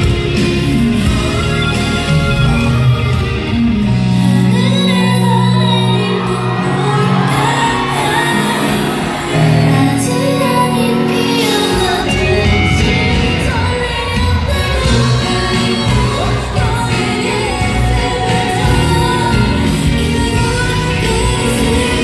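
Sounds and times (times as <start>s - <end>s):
woman singing ballad: 0.0s - 22.0s.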